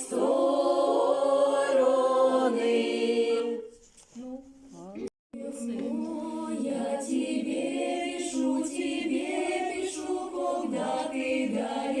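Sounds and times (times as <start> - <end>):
choir singing a cappella: 0.0 - 3.8, 5.3 - 12.0.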